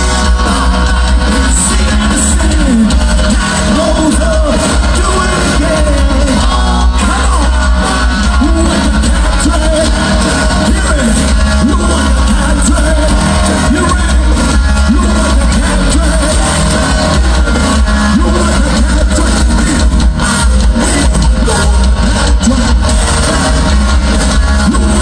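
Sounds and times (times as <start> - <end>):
live hard rock band: 0.0 - 25.0
male lead vocal: 0.0 - 25.0.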